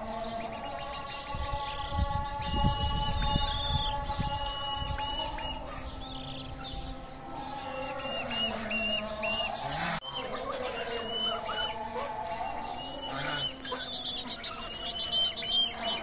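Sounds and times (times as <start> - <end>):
chickens drawn-out calls: 0.0 - 16.0
chickens peeping: 0.0 - 16.0.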